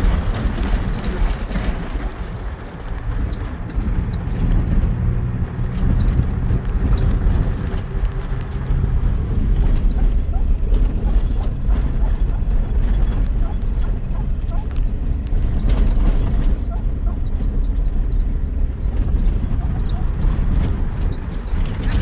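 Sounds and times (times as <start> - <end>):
knocks and rattles: 0.0 - 22.0
vehicle engine rumble: 0.0 - 22.0.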